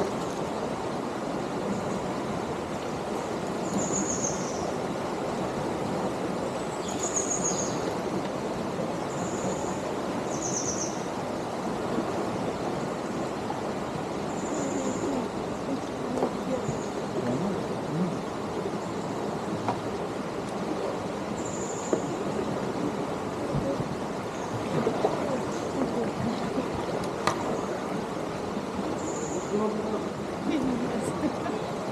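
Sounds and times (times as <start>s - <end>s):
flowing water: 0.0s - 31.9s.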